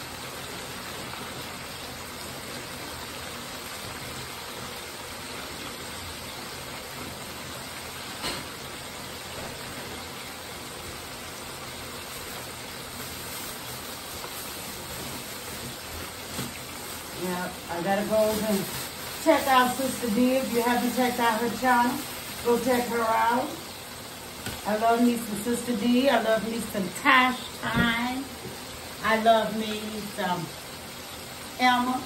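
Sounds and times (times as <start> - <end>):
food sizzling in deep fryer: 0.0 - 32.0.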